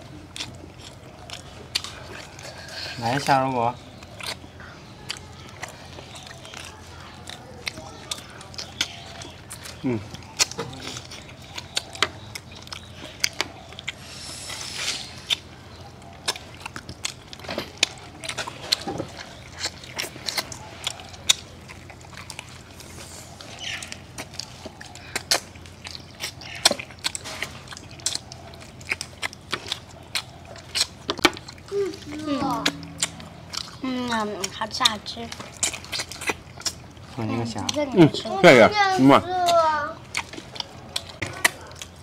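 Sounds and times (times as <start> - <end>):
man chewing with wet smacking: 0.0 - 42.0.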